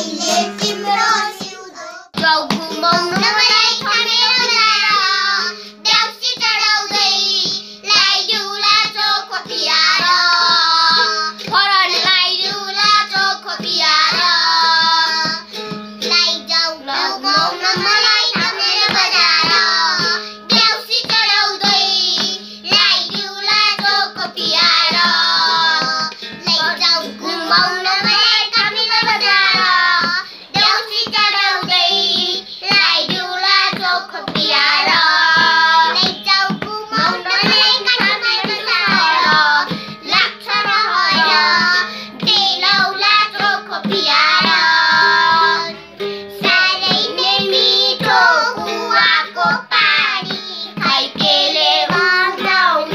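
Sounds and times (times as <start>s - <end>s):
children singing: 0.0s - 52.9s
toy ukulele strummed: 0.0s - 52.9s
hand drum tapping: 2.2s - 52.9s.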